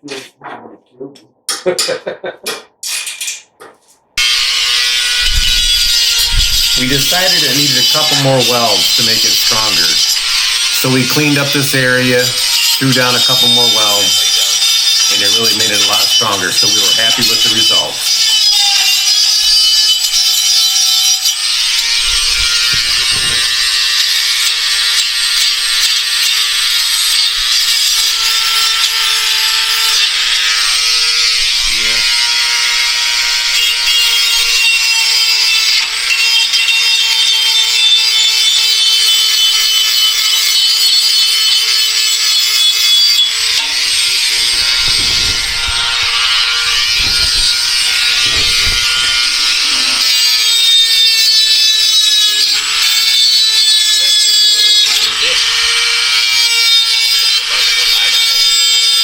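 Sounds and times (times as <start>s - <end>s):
angle grinder grinding steel: 1.8s - 59.0s.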